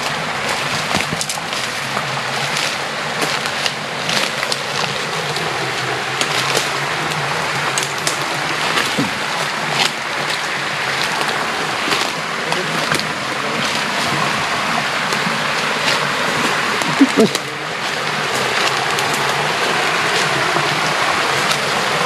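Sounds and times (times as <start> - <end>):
footsteps through undergrowth: 0.0 - 22.0.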